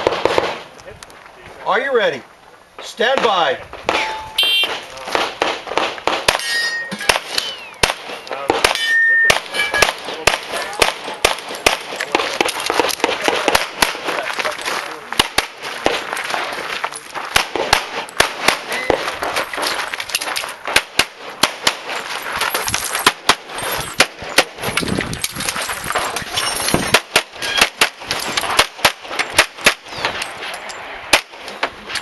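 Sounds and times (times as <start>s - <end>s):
rapid handgun shots: 0.0s - 0.7s, 3.0s - 22.2s, 23.0s - 24.7s, 26.8s - 32.0s.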